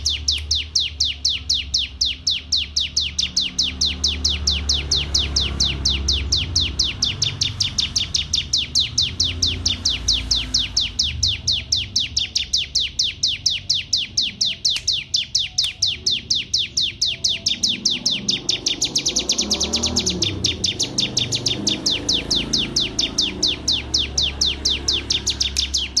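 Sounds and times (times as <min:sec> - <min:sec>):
canary singing trill: 0:00.0 - 0:26.0.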